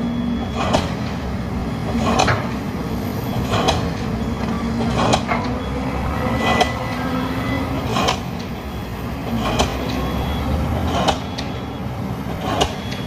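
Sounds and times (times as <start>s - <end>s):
excavator engines running: 0.0s - 13.0s.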